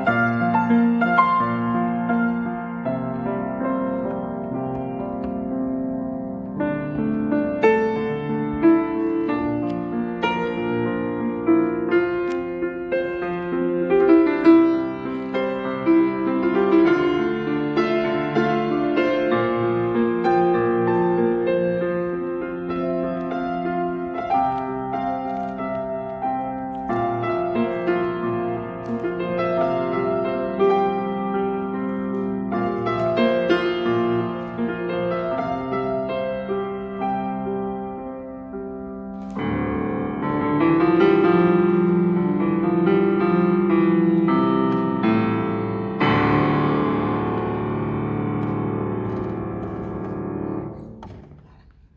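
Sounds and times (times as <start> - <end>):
piano music: 0.0 - 51.9.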